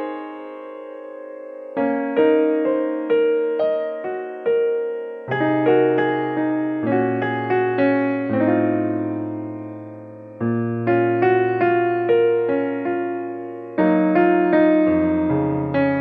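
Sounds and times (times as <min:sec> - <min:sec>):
gentle piano tune: 0:00.0 - 0:16.0.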